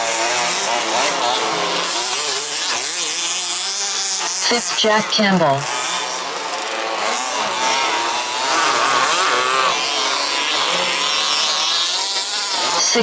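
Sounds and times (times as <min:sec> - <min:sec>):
small two-stroke engines revving: 0:00.0 - 0:13.0.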